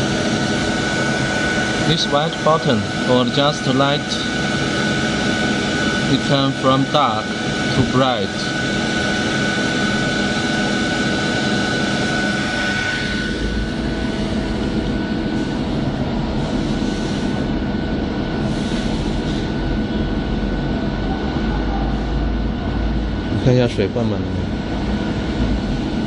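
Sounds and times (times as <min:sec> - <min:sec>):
water cooler hum: 0:00.0 - 0:21.5
thin high whine: 0:00.0 - 0:26.0.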